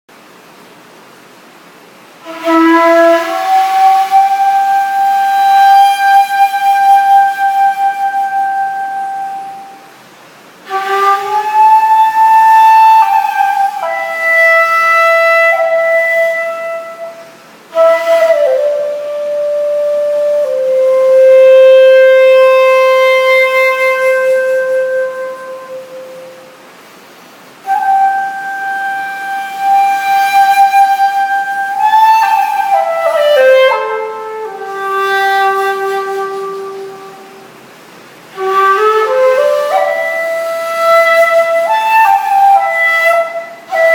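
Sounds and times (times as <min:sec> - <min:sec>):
breathy bamboo flute melody: 0:02.2 - 0:43.9.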